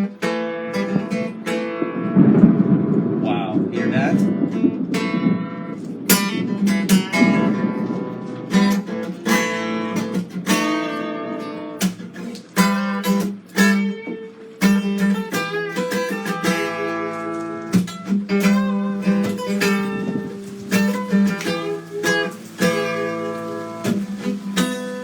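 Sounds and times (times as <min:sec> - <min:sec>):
guitar chords strummed: 0:00.0 - 0:25.0.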